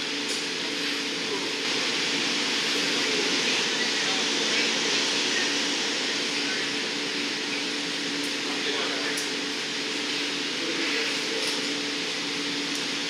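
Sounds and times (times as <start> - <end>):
gas furnaces roaring: 0.0 - 13.0.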